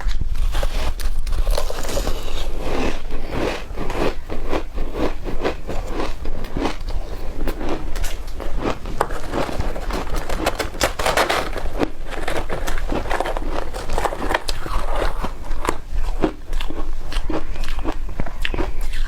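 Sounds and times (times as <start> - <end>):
chewing crunchy ice: 0.4 - 19.0.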